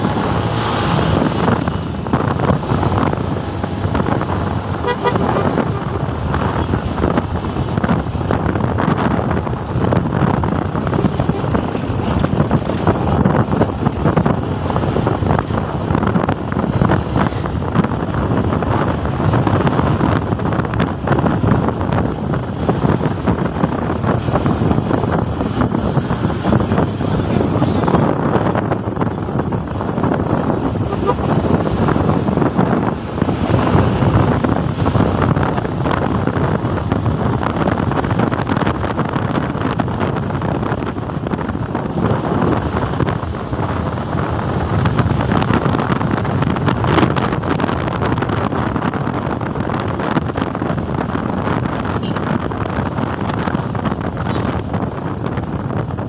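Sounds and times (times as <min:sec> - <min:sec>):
motorcycle engine: 0:00.0 - 0:48.8
wind buffeting microphone: 0:00.0 - 0:56.0.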